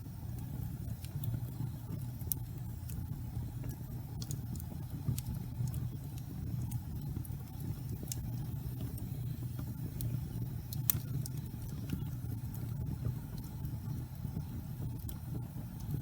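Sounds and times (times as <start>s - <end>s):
fire crackles and pops: 0.0s - 16.0s
low rumble of flame: 0.0s - 16.0s.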